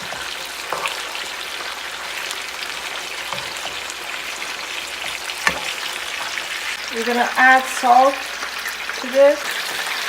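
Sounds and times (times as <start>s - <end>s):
chicken sizzling in frying pan: 0.0s - 10.0s.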